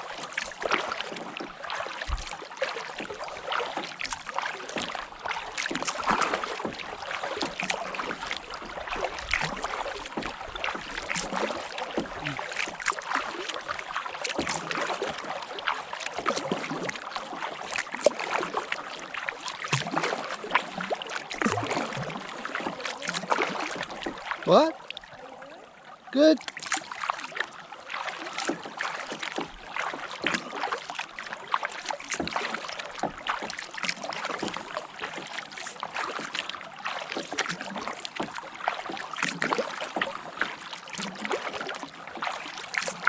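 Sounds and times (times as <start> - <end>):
paddle splashing in water: 0.0 - 43.0.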